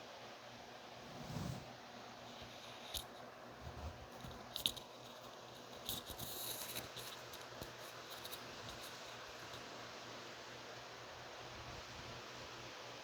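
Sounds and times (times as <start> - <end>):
steady rain hiss: 0.0 - 3.3, 4.1 - 13.0.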